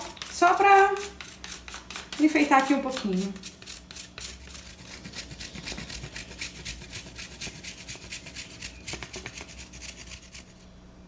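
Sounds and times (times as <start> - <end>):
chocolate rasping on metal grater: 0.0 - 10.6.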